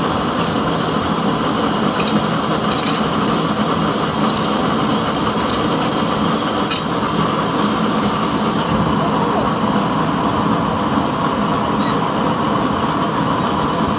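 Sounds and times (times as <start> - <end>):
oil stove burners rushing: 0.0 - 13.9.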